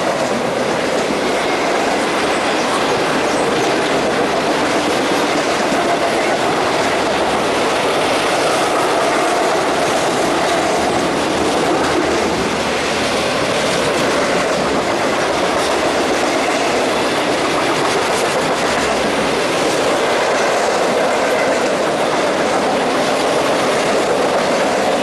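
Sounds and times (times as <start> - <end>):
steel wheels running on rails: 0.0 - 25.0.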